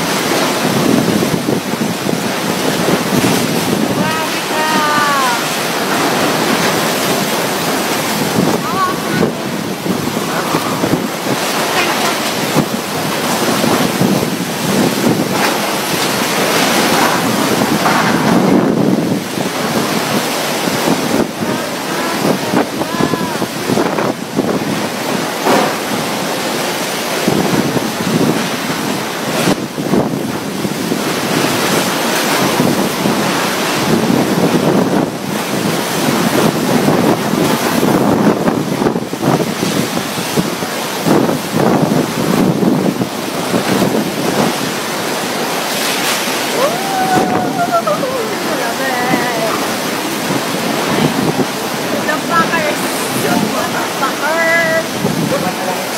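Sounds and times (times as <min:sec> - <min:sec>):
strong wind gusts: 0:00.0 - 0:55.9
wind buffeting microphone: 0:00.0 - 0:55.9.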